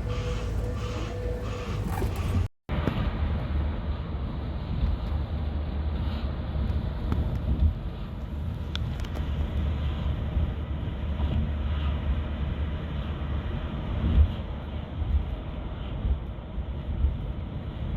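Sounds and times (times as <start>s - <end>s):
vehicle rumble from inside: 0.0s - 17.9s.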